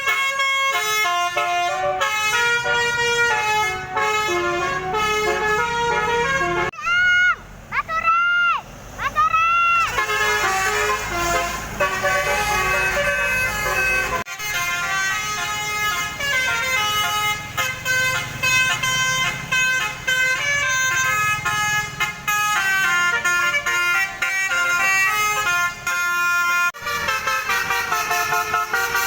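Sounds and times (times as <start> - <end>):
musical bus horn melody: 0.0 - 6.8, 9.6 - 29.0.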